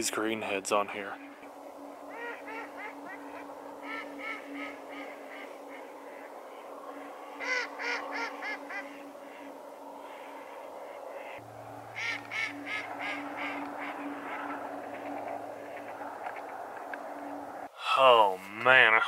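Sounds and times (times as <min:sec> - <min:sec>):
ducks chattering: 0:00.0 - 0:16.6.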